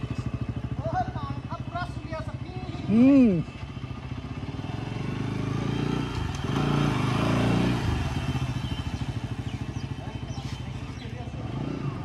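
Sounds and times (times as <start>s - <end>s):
motorcycle passing by: 0.0s - 12.0s.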